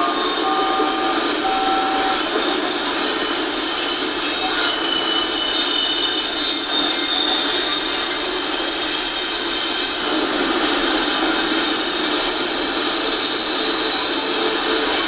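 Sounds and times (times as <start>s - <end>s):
steel wheels squealing: 0.0s - 15.0s
train rumbling past: 0.0s - 15.0s.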